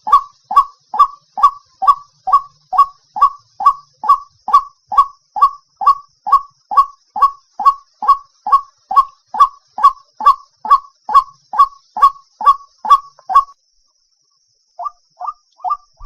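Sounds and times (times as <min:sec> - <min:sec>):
bird harsh repeated call: 0:00.0 - 0:13.6, 0:14.8 - 0:16.0.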